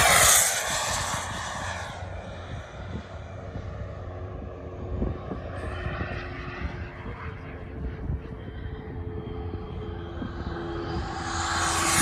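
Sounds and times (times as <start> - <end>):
jet turbine engine rushing: 0.0 - 12.0
wind on microphone: 0.0 - 12.0.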